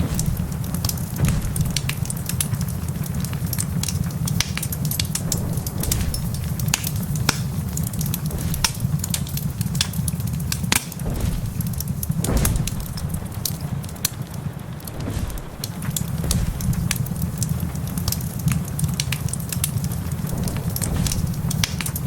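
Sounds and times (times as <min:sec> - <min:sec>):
low rumble: 0:00.0 - 0:19.2, 0:19.8 - 0:22.0
wood fire crackling in fireplace: 0:00.0 - 0:22.0.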